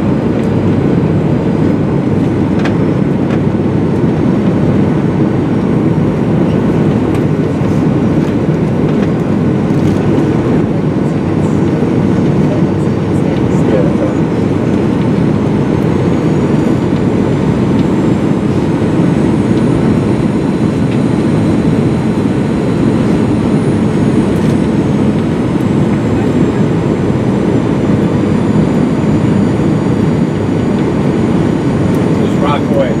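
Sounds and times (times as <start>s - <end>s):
airplane cabin roar: 0.0s - 33.0s.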